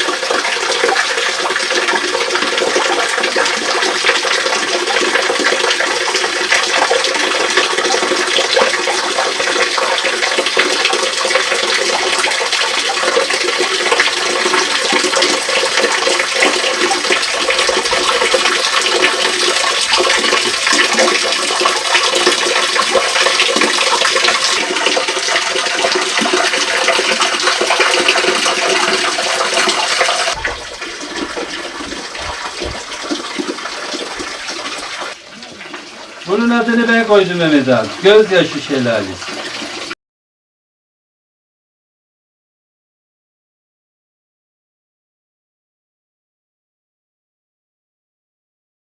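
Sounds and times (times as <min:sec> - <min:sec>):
waterfall splashing into pool: 0:00.0 - 0:40.0.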